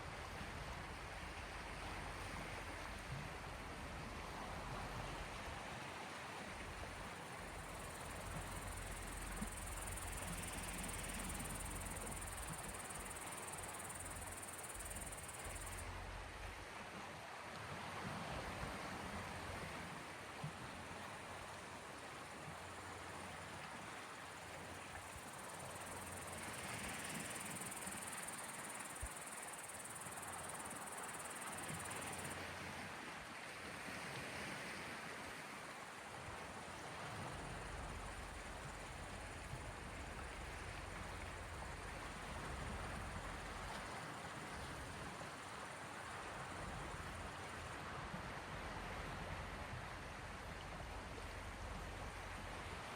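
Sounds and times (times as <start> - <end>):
small waves washing on shore: 0.0 - 52.9.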